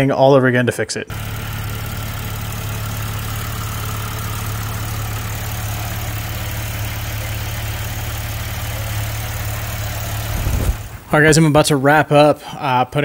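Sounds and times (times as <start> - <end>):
car engine idling: 1.1 - 13.0.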